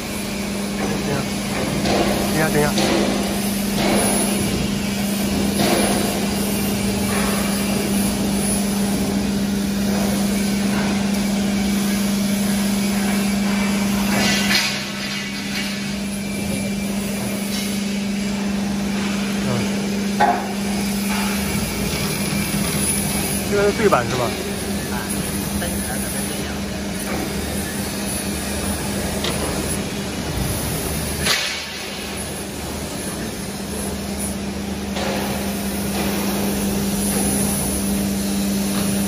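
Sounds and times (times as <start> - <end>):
hydraulic pump humming: 0.0 - 39.0
workshop noise: 0.0 - 39.0.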